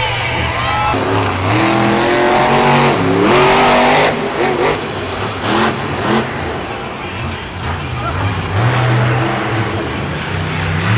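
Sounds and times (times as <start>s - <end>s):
truck engine revving: 0.0s - 10.9s.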